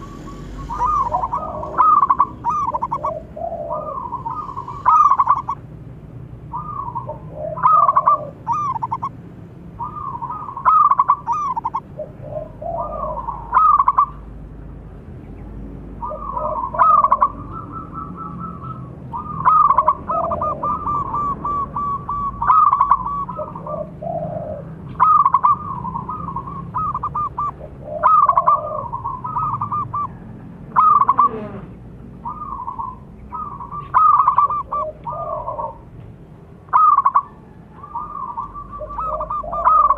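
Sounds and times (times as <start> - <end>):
doves cooing: 0.0 - 14.4, 16.0 - 39.9.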